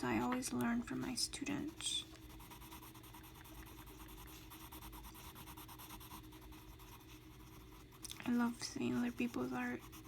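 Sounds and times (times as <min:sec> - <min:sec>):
pencil scratching on paper: 0:01.5 - 0:10.0.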